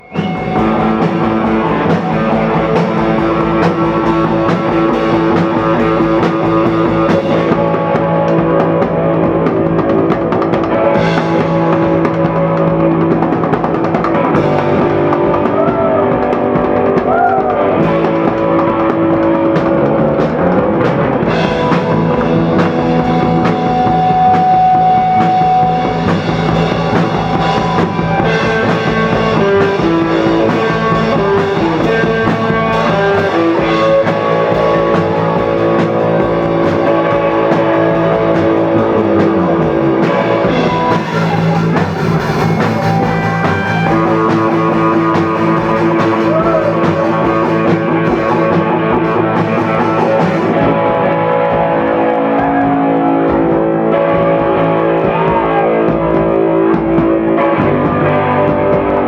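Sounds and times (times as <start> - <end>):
bass guitar: 0.0 - 59.0
drum kit beating: 0.0 - 59.0
electric guitar sustained notes: 0.0 - 59.0
sliding guitar notes: 0.0 - 59.0.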